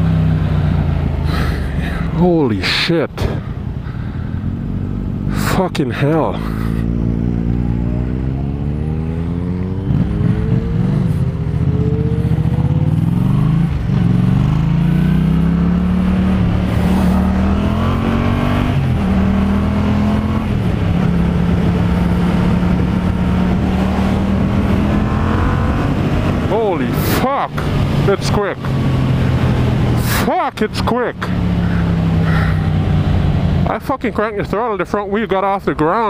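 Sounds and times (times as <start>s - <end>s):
motorcycle engine accelerating: 3.2s - 33.9s.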